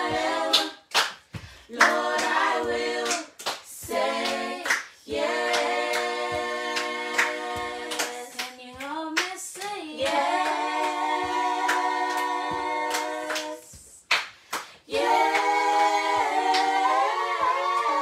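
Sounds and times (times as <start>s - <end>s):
group singing without instruments: 0.0s - 18.0s
hand claps: 0.0s - 18.0s.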